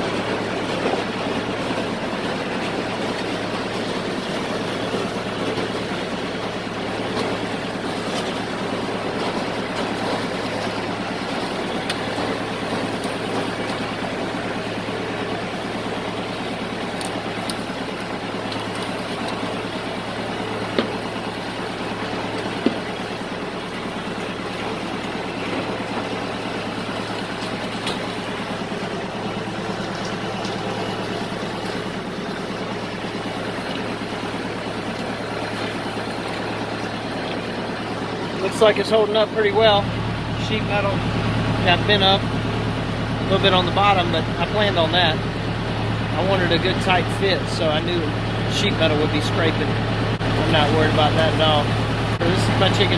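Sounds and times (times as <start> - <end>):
tractor engine running under load: 0.0 - 52.9.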